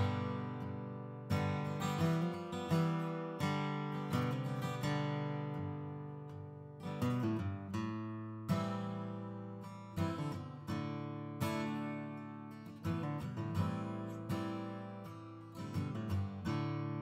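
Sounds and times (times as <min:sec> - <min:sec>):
strummed acoustic guitar chords: 0:00.0 - 0:17.0.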